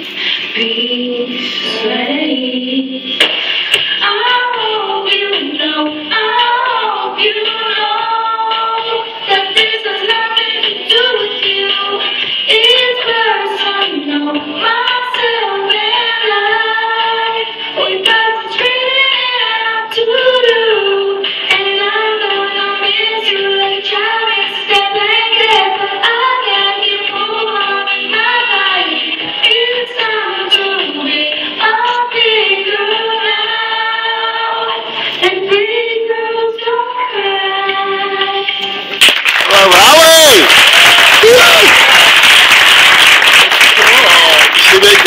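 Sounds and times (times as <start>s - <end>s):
girl singing into a microphone: 0.0s - 3.2s, 3.8s - 38.8s.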